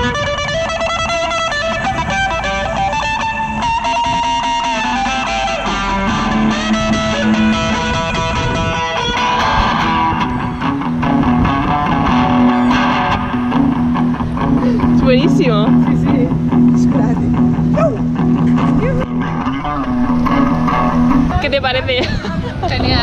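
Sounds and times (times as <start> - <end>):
electric guitar lead line: 0.0 - 23.0.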